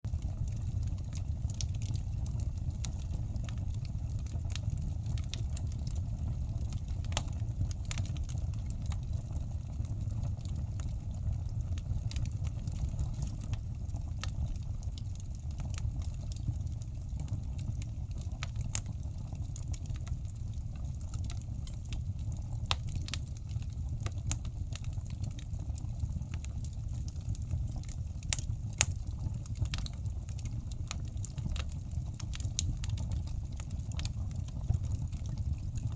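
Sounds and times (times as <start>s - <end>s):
wood fire crackling and popping: 0.1s - 35.9s.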